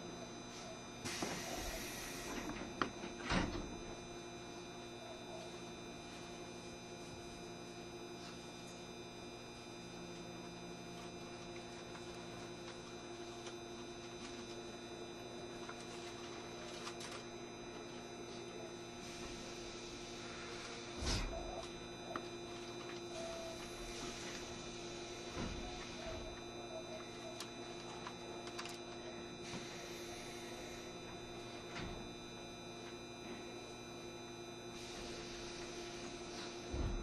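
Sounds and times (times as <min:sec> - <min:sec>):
train equipment humming: 0:00.0 - 0:37.0.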